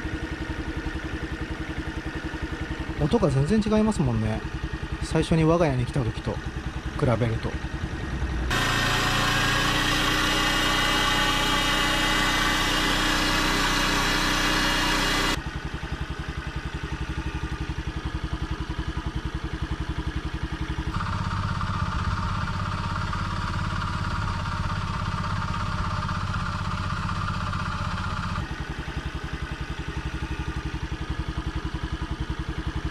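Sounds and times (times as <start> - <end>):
scooter engine revving and idling: 0.0 - 32.9.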